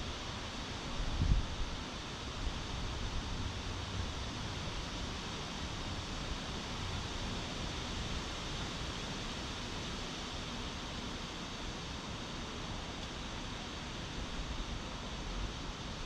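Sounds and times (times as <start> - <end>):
wind rustling leaves: 0.0 - 16.0.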